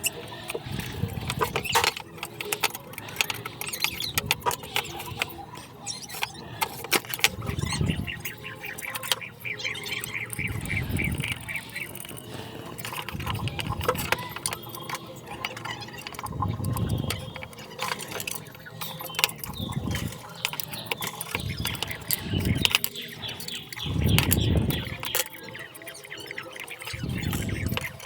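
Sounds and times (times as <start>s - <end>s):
light metallic clinks: 0.0s - 28.0s
sharp clicks of metal parts: 0.0s - 28.0s.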